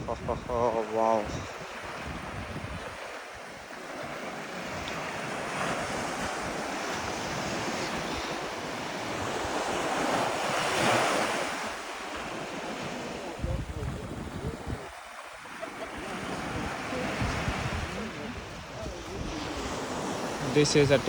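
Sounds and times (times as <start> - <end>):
sea waves washing onto shore: 0.0 - 21.0
wind buffeting microphone: 0.0 - 21.0.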